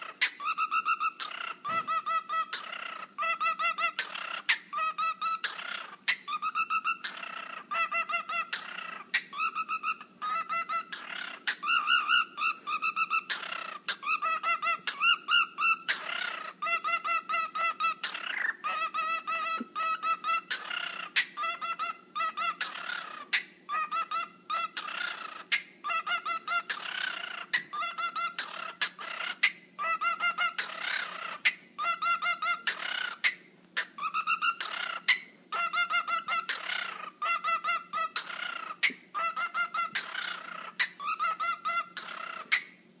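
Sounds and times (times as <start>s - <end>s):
parrot screeching: 0.0s - 42.8s
parrot squawking: 0.0s - 42.8s.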